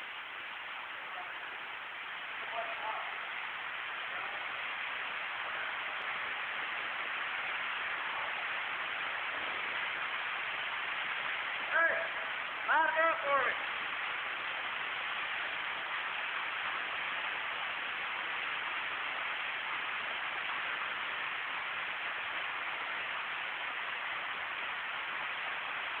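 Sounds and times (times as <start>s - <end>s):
waterfall splashing: 0.0s - 26.0s.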